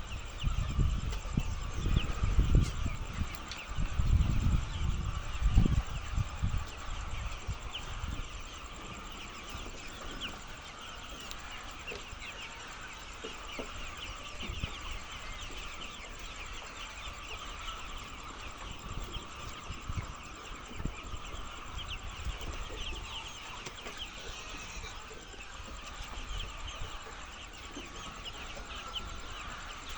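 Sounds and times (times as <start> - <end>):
hens clucking: 0.0 - 29.9.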